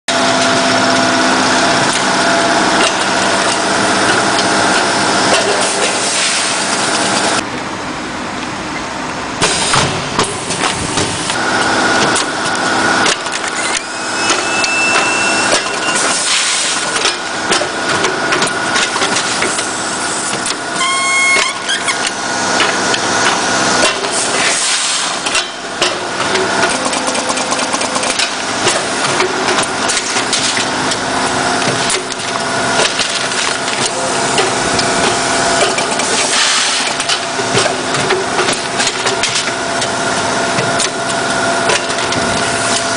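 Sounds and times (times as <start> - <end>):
packaging machine humming and clicking: 0.1 - 42.9.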